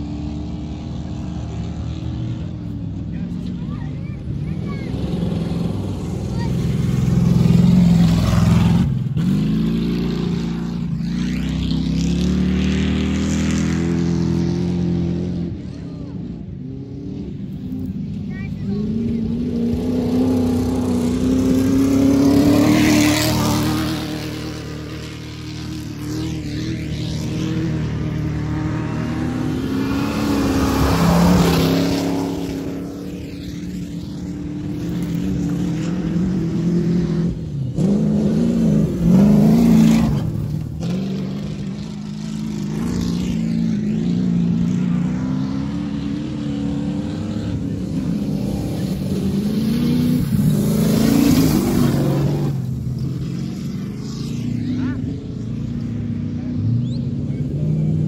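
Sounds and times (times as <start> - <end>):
race car engines running hard: 0.0 - 58.0.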